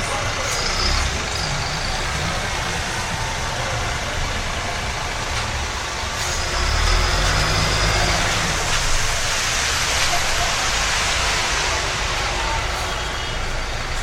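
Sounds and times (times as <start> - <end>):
heavy vehicle engine rumble: 0.0 - 14.0
street noise hiss: 0.0 - 14.0.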